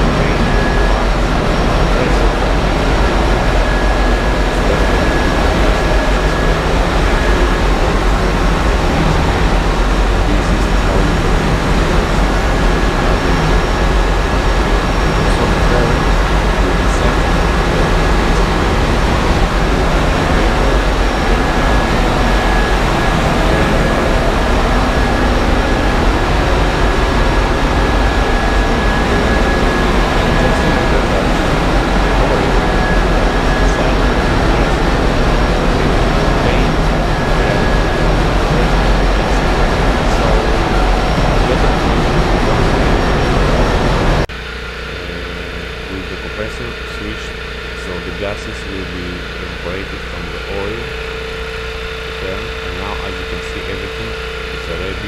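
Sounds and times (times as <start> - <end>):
engine room machinery din: 0.0 - 55.0
high steady whine: 0.0 - 55.0.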